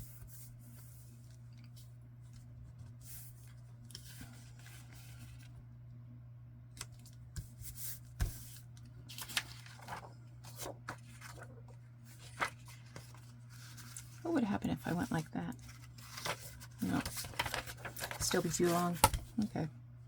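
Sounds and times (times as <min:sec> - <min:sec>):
paper and card rustling: 0:00.7 - 0:05.5, 0:06.8 - 0:19.7.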